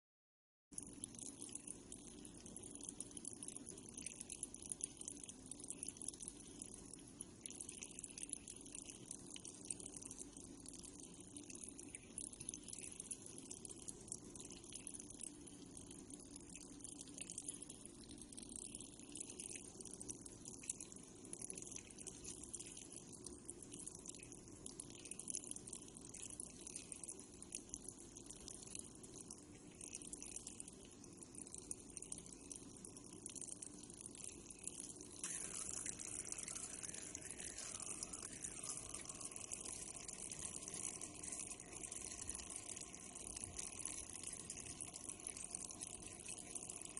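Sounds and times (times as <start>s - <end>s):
water running through pipe: 0.7s - 46.9s.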